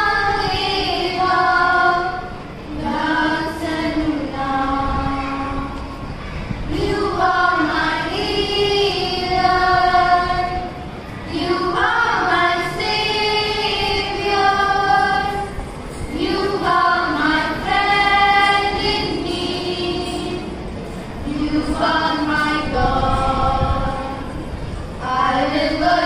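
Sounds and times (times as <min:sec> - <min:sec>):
girls choir singing: 0:00.0 - 0:26.0.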